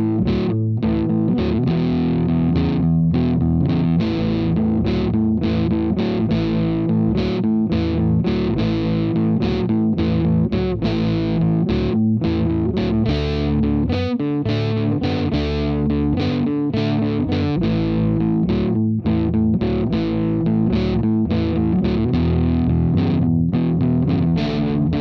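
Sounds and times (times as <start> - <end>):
rock music with electric guitar: 0.0 - 25.0.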